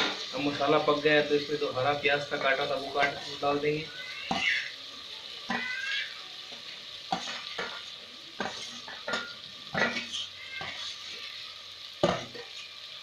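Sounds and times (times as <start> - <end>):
paste sizzling in oil: 0.0 - 13.0.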